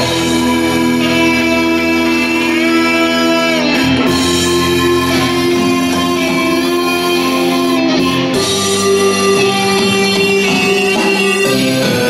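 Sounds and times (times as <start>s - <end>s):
plucked guitar-like part: 0.0s - 12.0s
sustained electronic chords: 0.0s - 12.0s.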